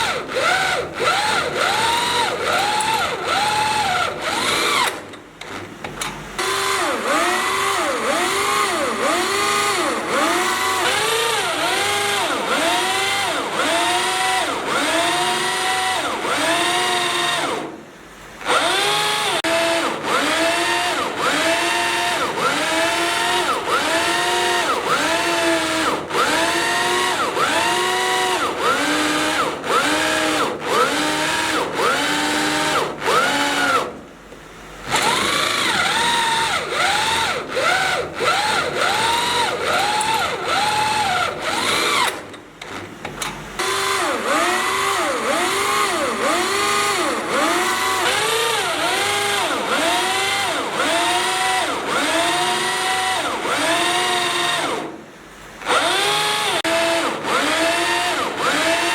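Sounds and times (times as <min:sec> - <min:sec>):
power drill boring into steel: 0:00.0 - 0:05.0, 0:06.4 - 0:17.7, 0:18.4 - 0:33.9, 0:34.9 - 0:42.3, 0:43.6 - 0:54.9, 0:55.6 - 0:58.9.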